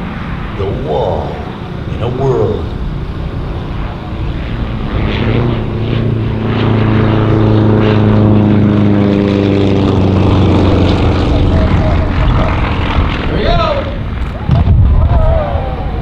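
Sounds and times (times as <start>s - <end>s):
propeller plane droning: 0.0s - 16.0s.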